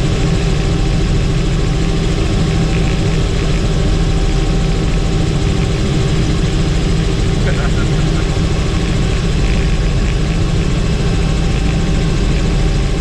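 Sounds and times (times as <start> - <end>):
helicopter engine and rotor: 0.0 - 13.0.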